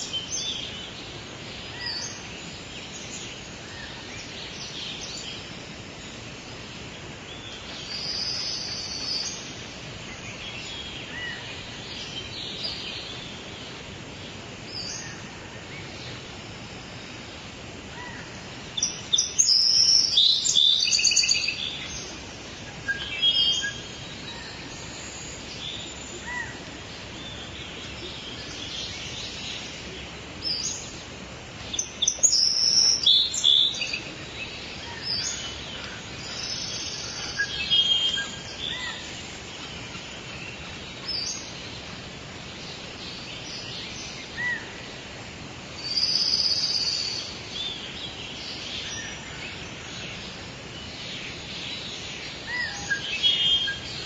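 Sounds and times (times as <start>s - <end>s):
songbirds chirping and singing: 0.0s - 54.0s
steady background hiss: 0.0s - 54.0s.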